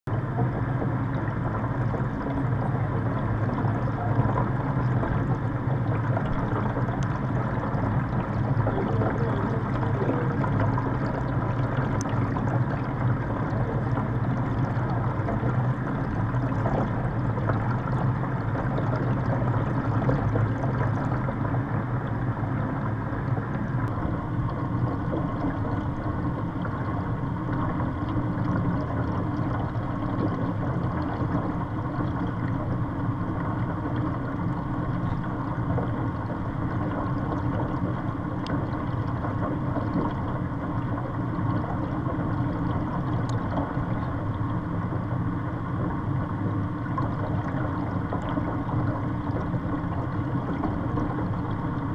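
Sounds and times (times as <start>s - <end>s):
constant low hum: 0.0s - 51.9s
water rushing underwater: 0.1s - 51.9s.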